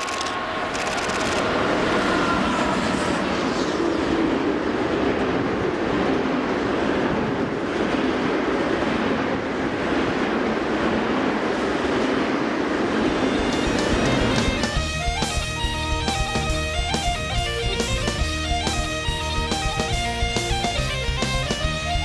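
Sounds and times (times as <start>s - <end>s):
freight train wheels on track: 0.0s - 22.0s.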